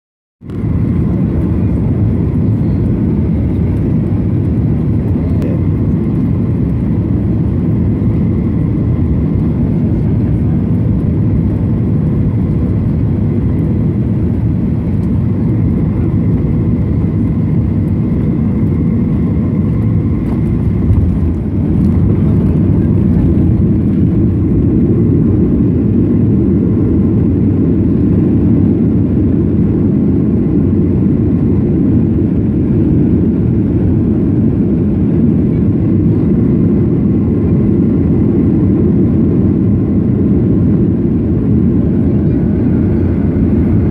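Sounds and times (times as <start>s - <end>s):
airplane cabin engine drone: 0.4s - 43.9s.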